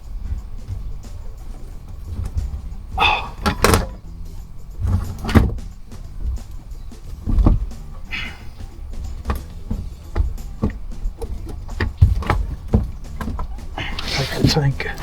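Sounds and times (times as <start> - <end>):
metal parts clunking and scraping: 0.0 - 15.0
steady low rumble: 0.0 - 15.0.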